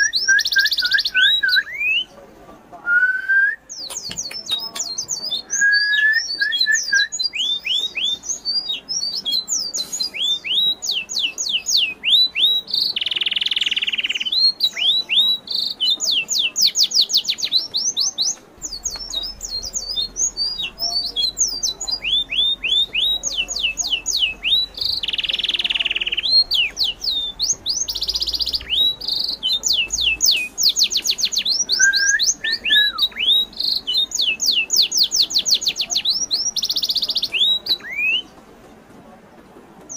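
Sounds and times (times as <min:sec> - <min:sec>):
birds chirping: 0:00.0 - 0:02.4, 0:03.6 - 0:39.9.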